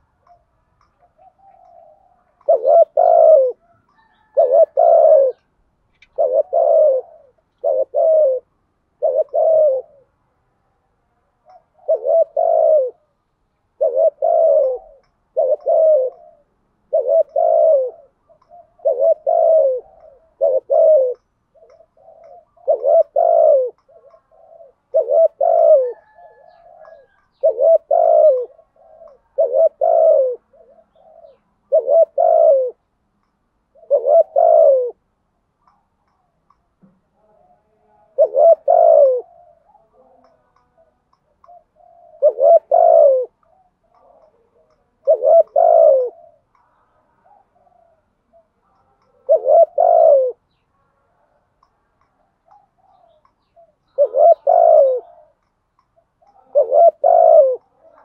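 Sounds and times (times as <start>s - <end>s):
dove cooing: 0.0s - 10.4s, 11.1s - 32.9s, 33.6s - 36.4s, 37.2s - 51.5s, 52.1s - 58.0s.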